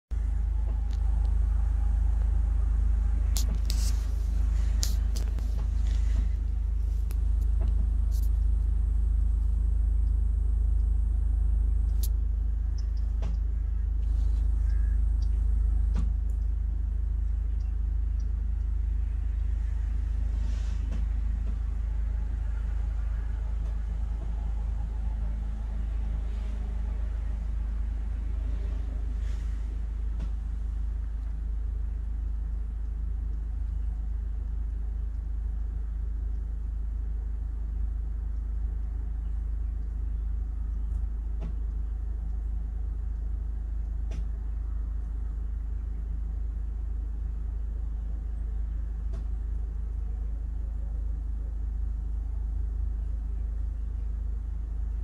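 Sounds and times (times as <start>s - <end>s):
faint hum: 0.1s - 55.0s
steady low rumble: 0.1s - 55.0s.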